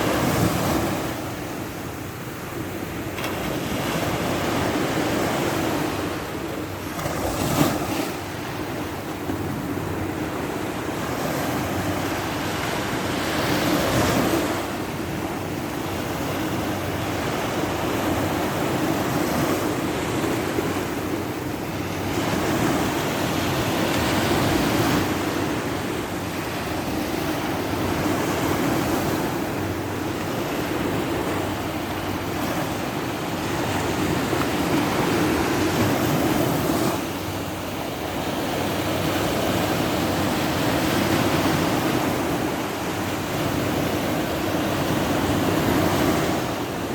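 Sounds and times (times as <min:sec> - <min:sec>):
sea surf washing on shore: 0:00.0 - 0:46.9.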